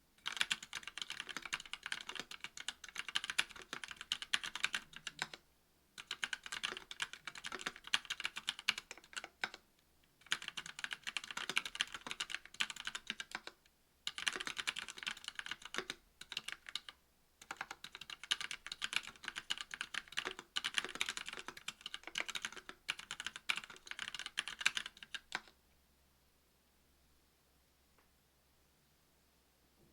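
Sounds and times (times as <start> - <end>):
typing on mechanical keyboard: 0.2 - 5.4, 6.0 - 9.6, 10.2 - 25.6.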